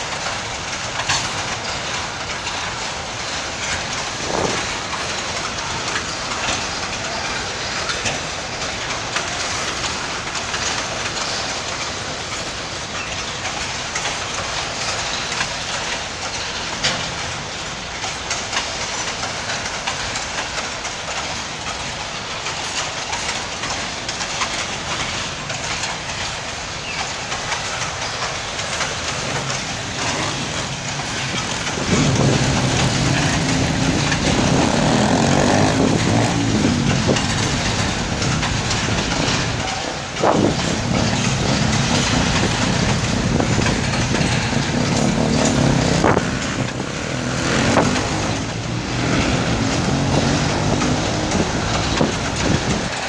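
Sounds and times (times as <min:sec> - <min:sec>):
train wheels rumbling on track: 0:00.0 - 0:53.0
wheels clicking over rail joints: 0:00.0 - 0:53.0.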